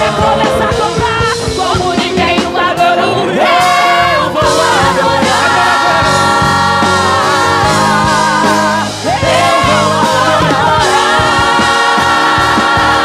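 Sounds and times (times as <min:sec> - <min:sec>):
band with drums: 0:00.0 - 0:13.0
women's group singing gospel: 0:00.0 - 0:13.0.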